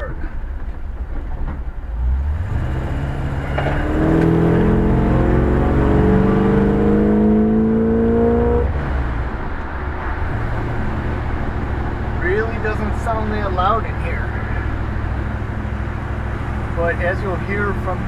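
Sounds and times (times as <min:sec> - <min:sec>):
car engine accelerating hard: 0:01.9 - 0:18.0.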